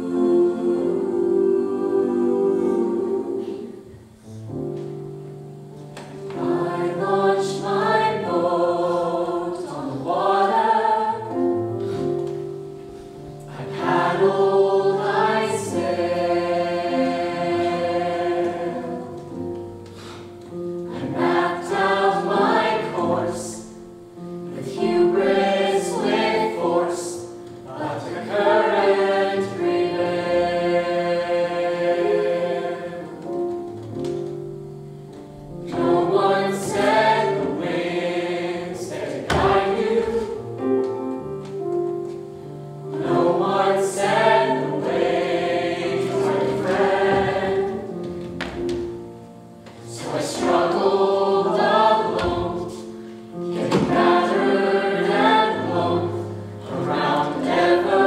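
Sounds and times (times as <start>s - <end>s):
young voices singing together: 0.0s - 4.3s, 6.0s - 49.0s, 49.6s - 58.0s
instrumental accompaniment: 0.0s - 58.0s.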